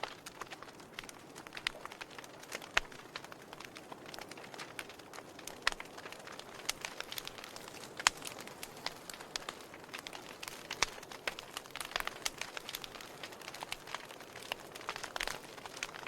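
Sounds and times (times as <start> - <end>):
campfire crackling and popping: 0.0 - 16.0
soft fire hiss: 0.0 - 16.0.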